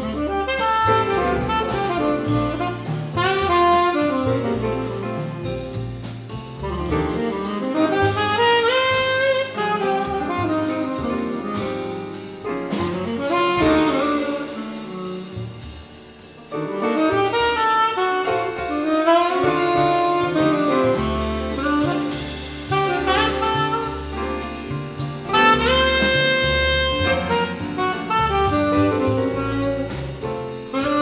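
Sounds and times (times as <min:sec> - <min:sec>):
double bass: 0:00.0 - 0:31.0
drums: 0:00.0 - 0:31.0
piano: 0:00.0 - 0:31.0
tenor saxophone jazz solo: 0:00.0 - 0:31.0.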